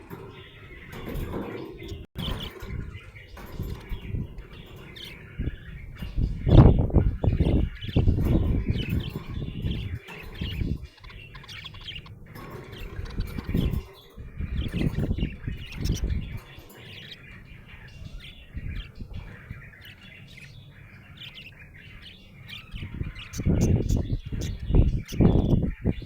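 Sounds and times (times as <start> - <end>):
budgerigar chirping: 0.0 - 26.0.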